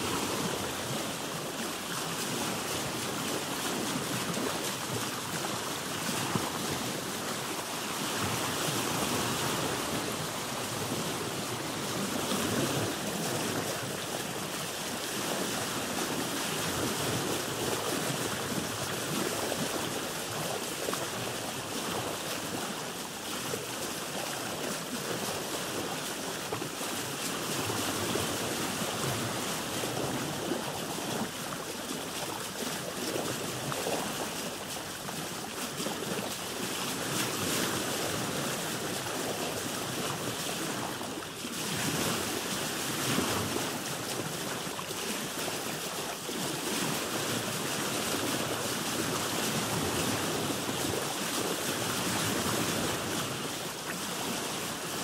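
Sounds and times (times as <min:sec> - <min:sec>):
sea waves splashing around a boat: 0:00.0 - 0:55.0
wind: 0:00.0 - 0:55.0.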